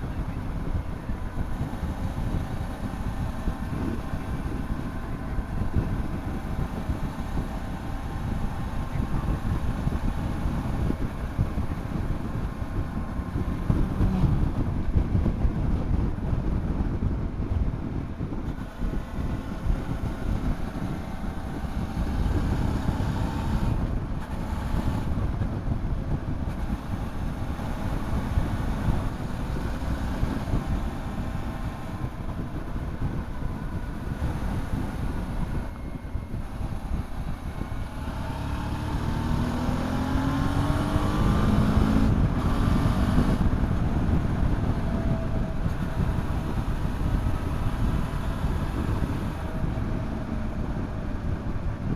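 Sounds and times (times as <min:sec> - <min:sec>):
motorcycle engine drone: 0:00.0 - 0:51.9
wind buffeting microphone: 0:00.0 - 0:51.9.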